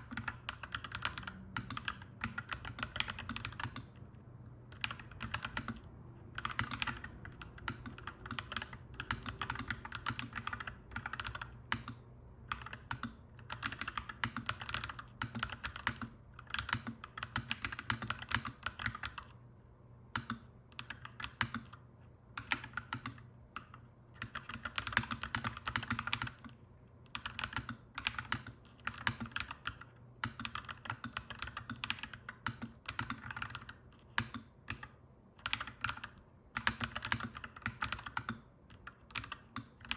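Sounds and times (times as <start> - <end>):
mechanical keyboard typing: 0.0 - 4.0, 4.7 - 19.4, 20.1 - 21.8, 22.4 - 39.9.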